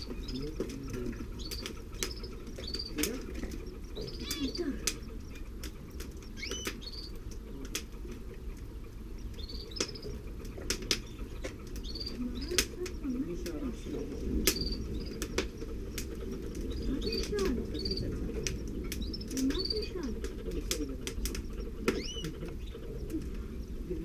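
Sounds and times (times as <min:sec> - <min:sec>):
birds rustling in nest: 0:00.0 - 0:24.0.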